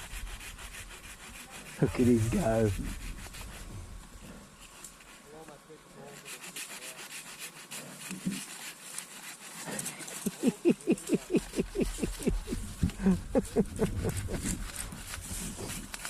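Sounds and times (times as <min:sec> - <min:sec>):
hand saw cutting log: 0:00.0 - 0:05.4, 0:06.0 - 0:16.0.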